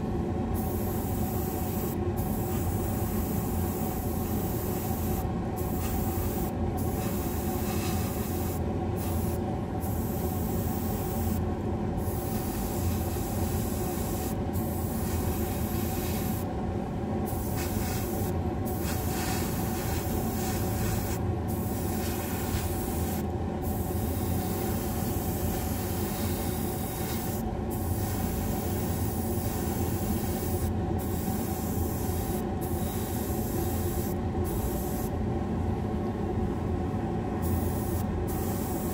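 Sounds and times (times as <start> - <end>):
exhaust fan hum: 0.0 - 38.9
airbrush spraying hiss: 0.6 - 11.4, 12.0 - 16.5, 17.3 - 35.1, 37.4 - 38.9.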